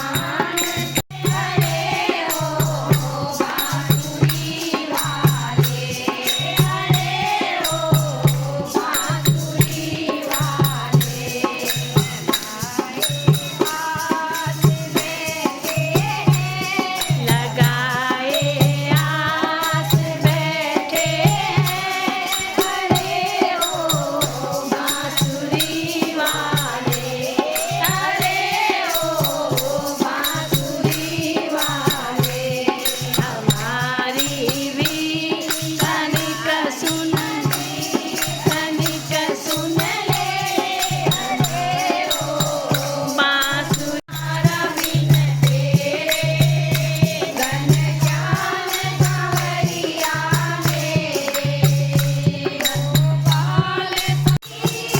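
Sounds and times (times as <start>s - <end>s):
group singing devotional song: 0.0s - 54.9s
jingling hand percussion: 0.0s - 54.9s.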